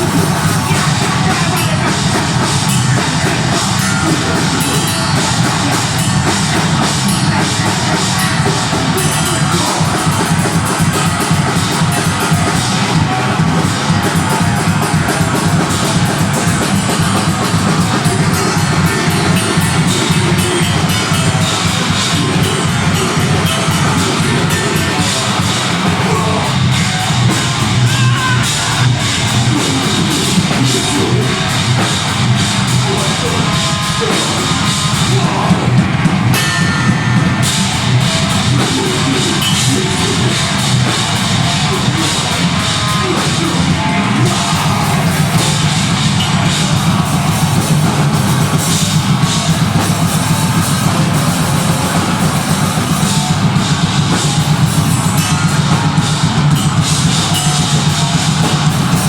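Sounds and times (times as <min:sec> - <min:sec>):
live metal band playing: 0:00.0 - 0:59.0.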